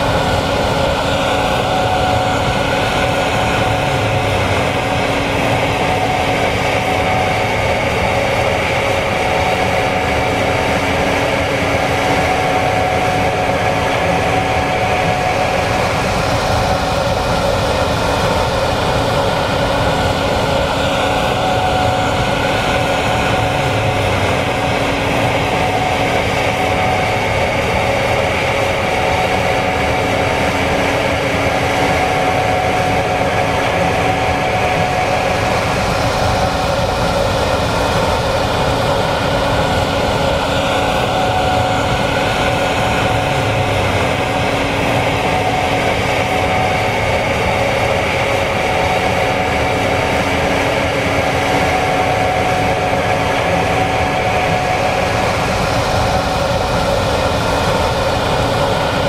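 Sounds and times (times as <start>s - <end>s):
combine harvester drone: 0.0s - 59.0s
steady whining tones: 0.0s - 59.0s.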